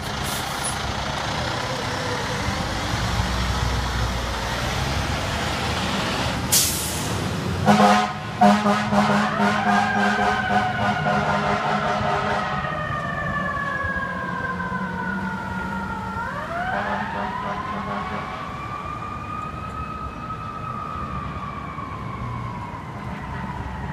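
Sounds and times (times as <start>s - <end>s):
fire truck siren wailing: 0.0s - 23.9s.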